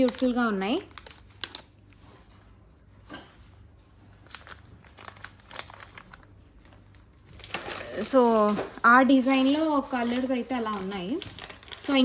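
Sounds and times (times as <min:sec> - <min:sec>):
packaging crinkling: 0:00.0 - 0:02.8, 0:04.1 - 0:12.0.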